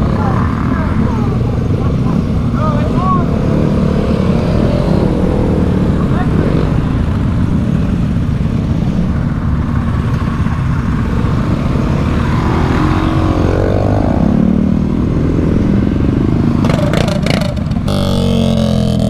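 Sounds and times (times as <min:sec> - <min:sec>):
dirt bike engines rumbling: 0:00.0 - 0:19.0
motorbike revving: 0:00.0 - 0:19.0.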